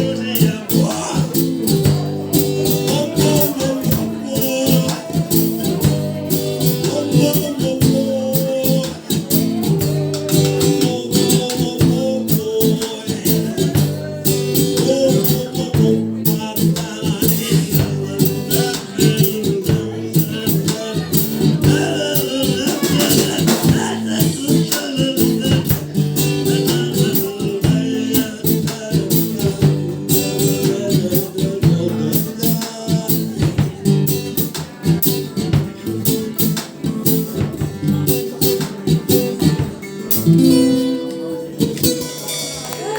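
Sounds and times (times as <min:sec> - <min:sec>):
guitar strumming fast: 0:00.0 - 0:42.9
live acoustic rock song: 0:00.0 - 0:42.9.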